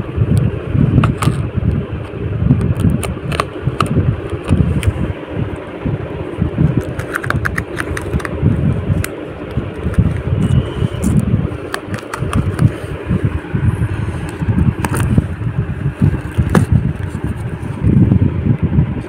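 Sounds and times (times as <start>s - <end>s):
microphone handling rumble: 0.0s - 19.0s.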